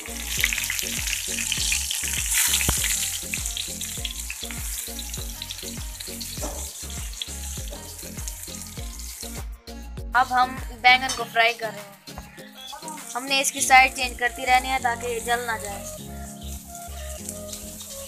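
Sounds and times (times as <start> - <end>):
eggplant slices sizzling in oil: 0.0 - 9.6, 12.4 - 18.0.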